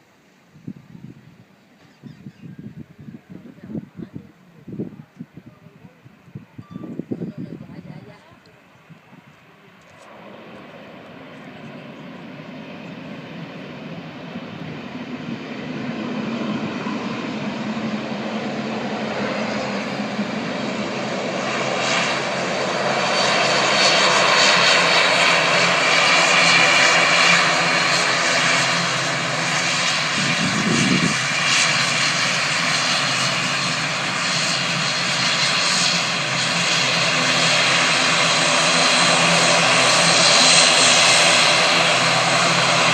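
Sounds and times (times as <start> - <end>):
airplane engines: 0.0 - 42.9.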